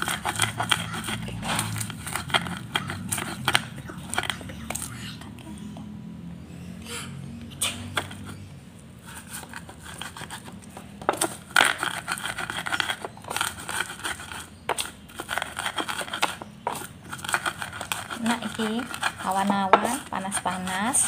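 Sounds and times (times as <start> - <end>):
pestle grinding in stone mortar: 0.0 - 4.9, 9.0 - 21.0.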